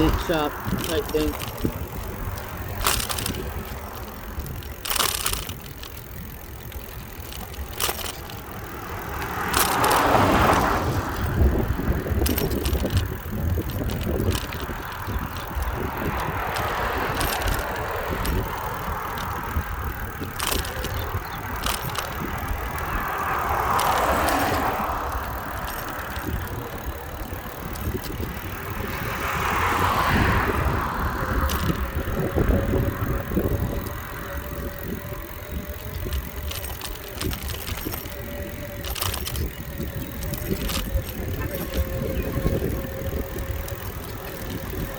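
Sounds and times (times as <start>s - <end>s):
bicycle clicks and rattles: 0.0s - 44.9s
road noise: 0.0s - 44.9s
vehicles passing: 0.0s - 44.9s
wind rumble: 0.0s - 44.9s.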